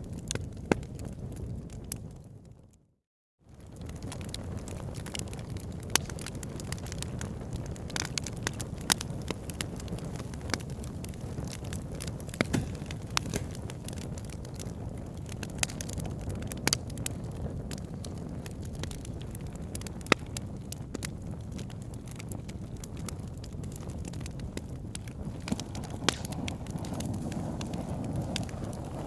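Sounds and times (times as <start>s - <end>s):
wood fire crackling and popping: 0.0s - 2.7s, 3.5s - 29.0s.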